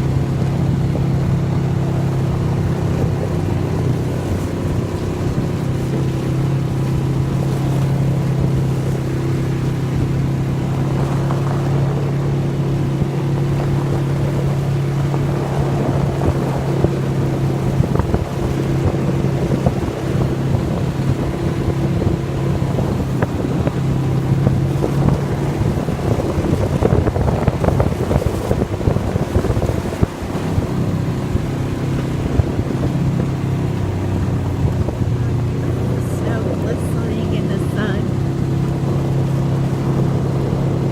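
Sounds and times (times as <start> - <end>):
atv engine running: 0.0 - 40.9
wind noise on microphone: 0.0 - 40.9.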